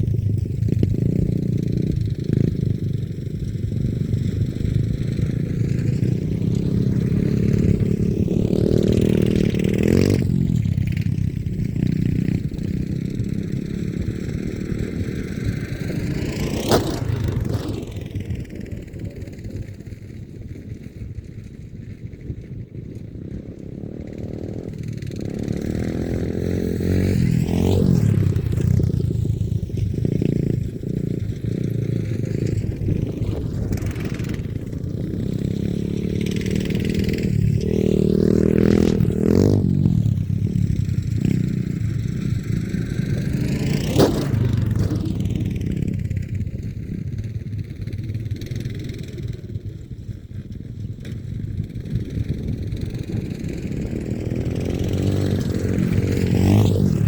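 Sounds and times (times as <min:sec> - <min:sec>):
off-road vehicle engine revving: 0:00.0 - 0:19.8, 0:23.7 - 0:46.3, 0:52.0 - 0:57.0.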